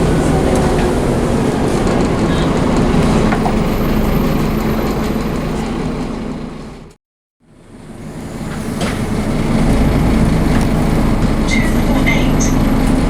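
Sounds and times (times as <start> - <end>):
drivetrain rumble: 0.0 - 6.9, 8.2 - 13.0
bus diesel engine running: 0.0 - 13.0.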